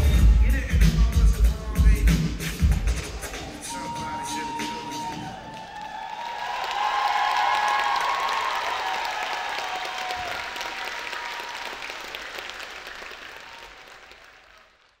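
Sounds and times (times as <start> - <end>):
people cheering: 2.8 - 15.0
audience applauding: 2.9 - 15.0.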